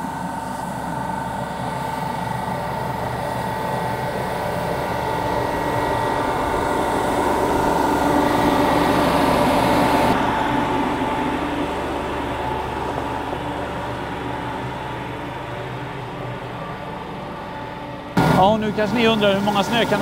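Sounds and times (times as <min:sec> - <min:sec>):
snow cannon whine: 0:00.0 - 0:20.0.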